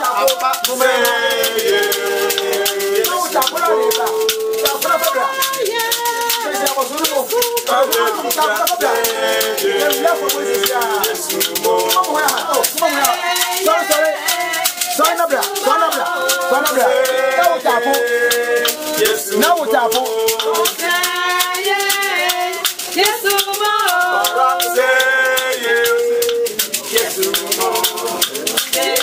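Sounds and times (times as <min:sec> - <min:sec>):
person singing: 0:00.0 - 0:29.0
shaker rattling: 0:00.0 - 0:29.0.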